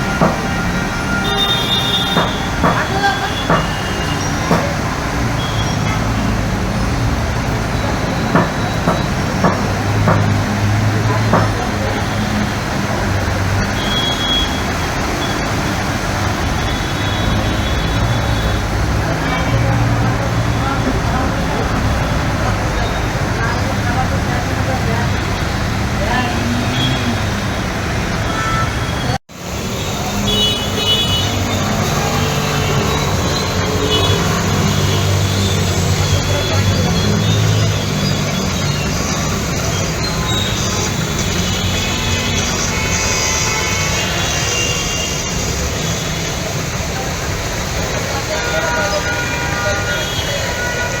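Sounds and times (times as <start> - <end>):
street traffic noise: 0.0 - 51.0.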